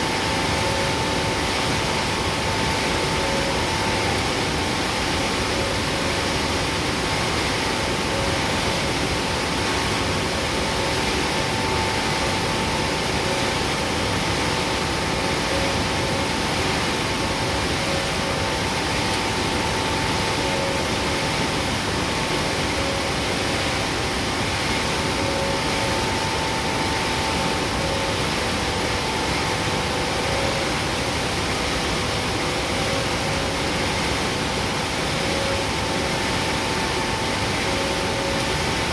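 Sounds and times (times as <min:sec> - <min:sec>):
steady humming tones: 0:00.0 - 0:38.9.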